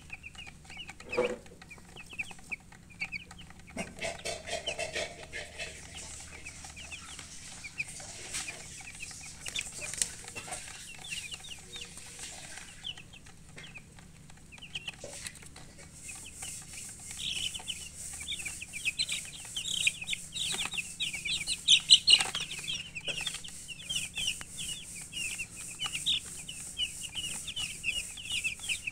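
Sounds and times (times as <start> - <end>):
baby chicks peeping: 0.0 - 28.9.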